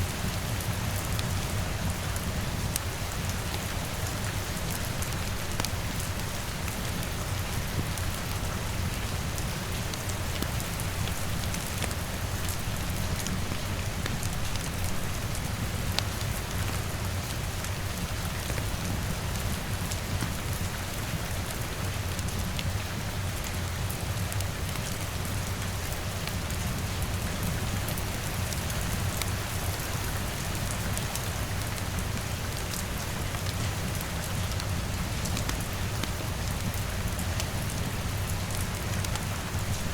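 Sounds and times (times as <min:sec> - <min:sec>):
rain falling on a window: 0:00.1 - 0:39.9.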